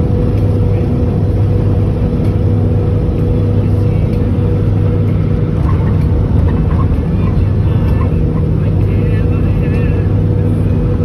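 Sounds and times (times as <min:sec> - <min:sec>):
vehicle engine and tyre drone: 0:00.0 - 0:11.0.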